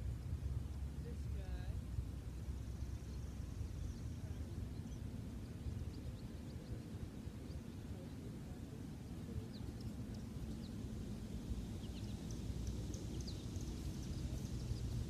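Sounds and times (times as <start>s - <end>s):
low outdoor rumble: 0.0s - 15.0s
faint bird chirps: 0.1s - 15.0s.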